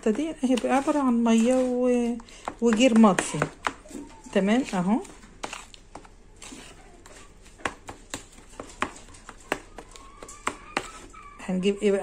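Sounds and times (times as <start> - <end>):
spoon stirring paste in a bowl: 0.0 - 12.0.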